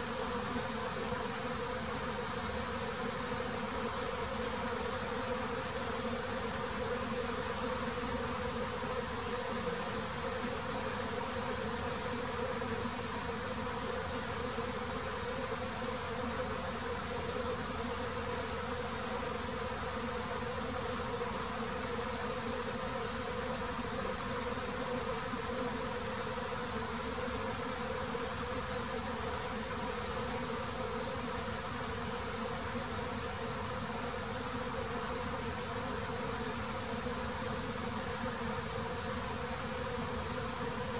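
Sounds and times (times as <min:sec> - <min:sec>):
honeybees buzzing: 0:00.0 - 0:40.9.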